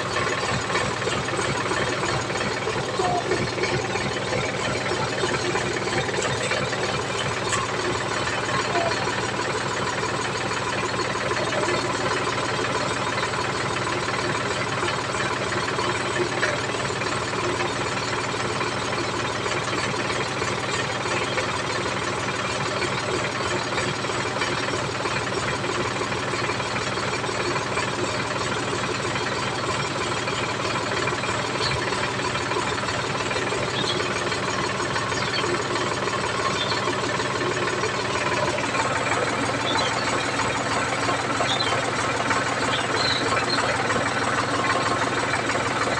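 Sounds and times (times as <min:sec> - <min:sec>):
tractor diesel engine idling: 0:00.0 - 0:45.9.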